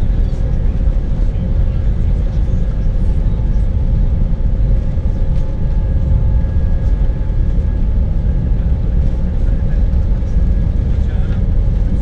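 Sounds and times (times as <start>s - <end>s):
faint jet engine whine: 0.0s - 12.0s
heavy rumble of plane rolling: 0.0s - 12.0s.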